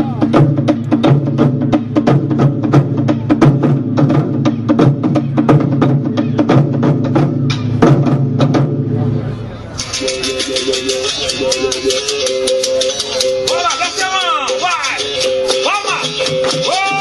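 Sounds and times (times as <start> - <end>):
capoeira percussion strikes: 0.0 - 17.0
taiko drums: 0.0 - 17.0.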